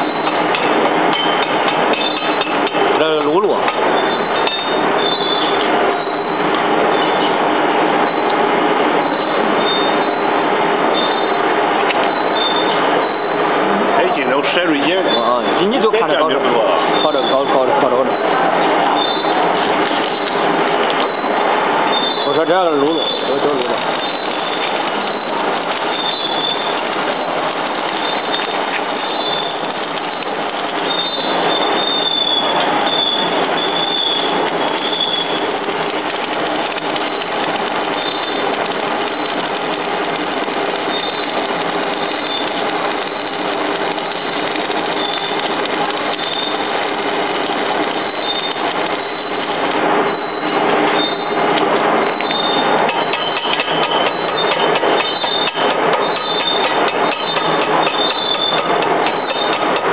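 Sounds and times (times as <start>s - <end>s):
arc welding crackling sizzle: 0.0s - 59.9s.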